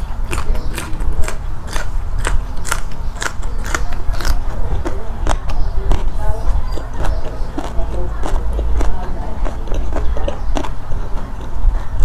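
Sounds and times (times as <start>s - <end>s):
bean crunching being chewed: 0.0s - 12.0s.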